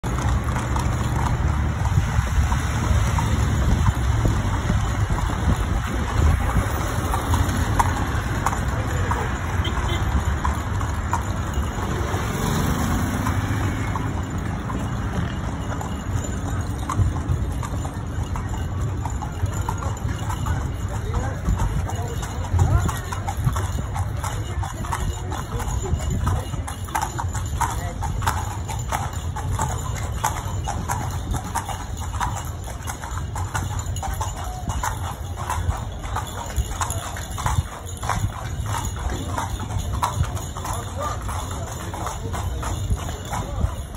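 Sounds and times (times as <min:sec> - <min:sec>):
carriage wheels rumbling: 0:00.0 - 0:43.9
horse hooves on pavement: 0:00.0 - 0:43.9
nearby traffic: 0:00.0 - 0:43.9.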